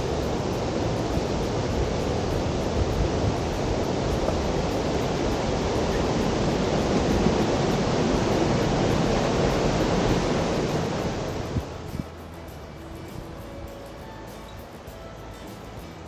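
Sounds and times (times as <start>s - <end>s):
river water rushing over a weir: 0.0s - 16.0s.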